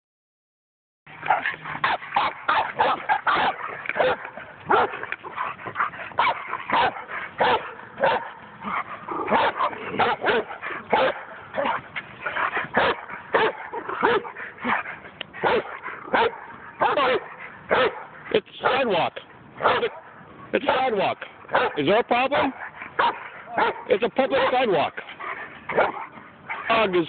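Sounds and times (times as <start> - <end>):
dog barking rapidly: 1.2 - 5.0, 6.2 - 11.8, 12.7 - 14.8, 15.4 - 25.0, 25.7 - 27.0.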